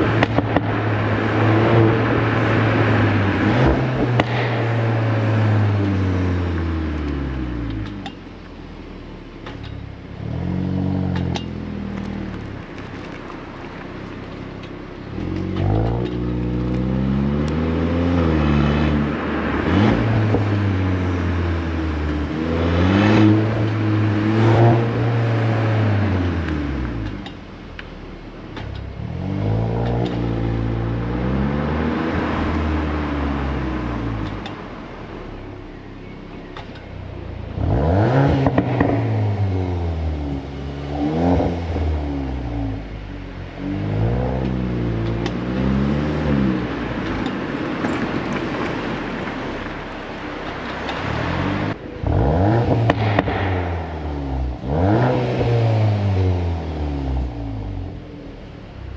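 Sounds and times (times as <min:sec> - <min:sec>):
car engine accelerating hard: 0:00.0 - 0:58.9.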